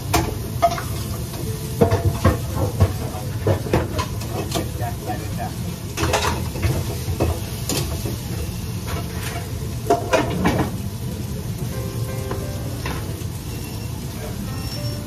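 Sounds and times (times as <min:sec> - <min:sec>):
frying sizzle: 0:00.0 - 0:15.0
low kitchen rumble: 0:00.0 - 0:15.0.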